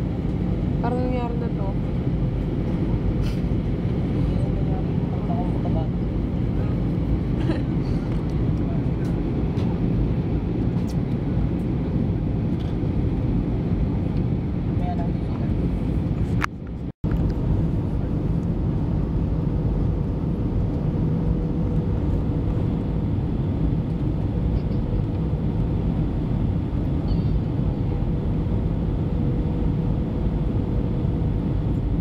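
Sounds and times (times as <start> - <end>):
engine and airflow noise: 0.0 - 32.0.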